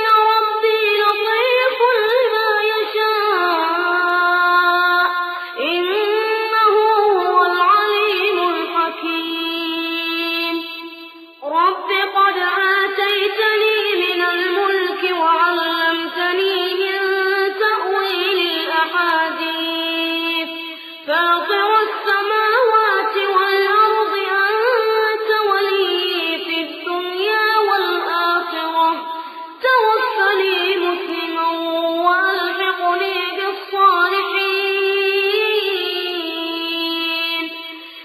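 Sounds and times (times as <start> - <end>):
young reciter chanting melodically: 5.8 - 37.9.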